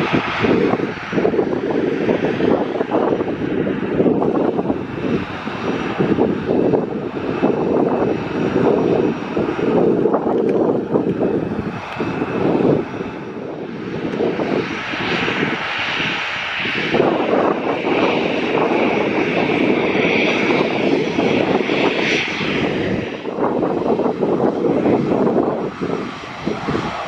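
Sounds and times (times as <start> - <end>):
airplane engines rumbling: 0.0 - 27.0
high engine whine: 0.0 - 27.0.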